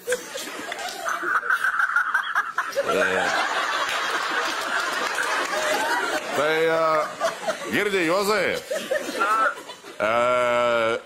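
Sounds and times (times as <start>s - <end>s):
audience laughing: 0.0s - 10.4s.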